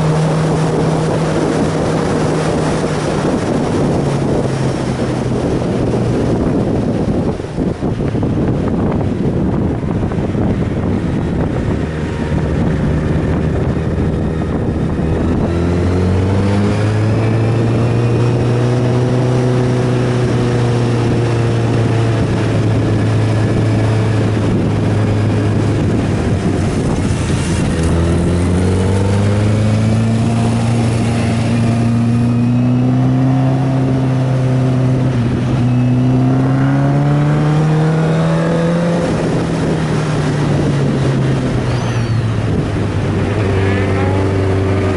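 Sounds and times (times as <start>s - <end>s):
motorcycle engine revving: 0.0s - 44.9s
wind on microphone: 0.0s - 44.9s.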